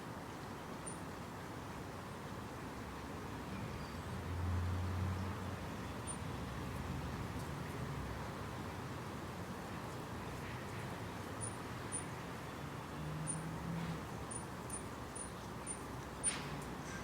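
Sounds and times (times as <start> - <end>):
distant road traffic rumble: 0.0 - 17.0.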